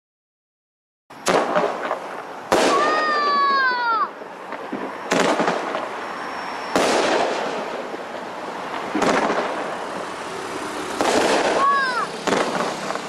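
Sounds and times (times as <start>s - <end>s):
fireworks bangs: 1.2s - 13.0s.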